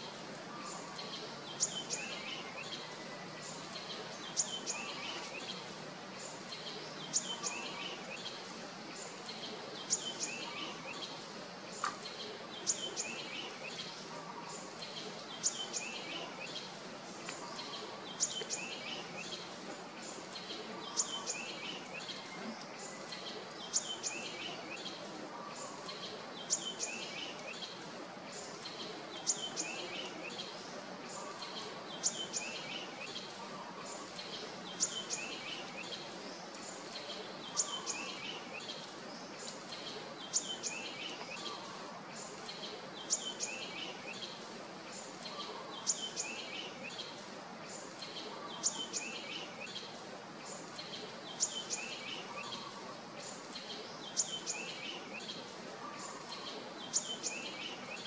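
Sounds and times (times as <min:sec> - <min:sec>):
bird song: 0:00.0 - 0:58.0
steady background hiss: 0:00.0 - 0:58.0.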